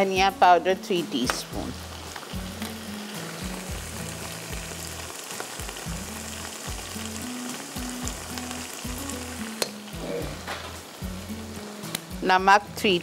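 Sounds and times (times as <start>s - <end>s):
minced meat sizzling in a pot: 0.0s - 13.0s.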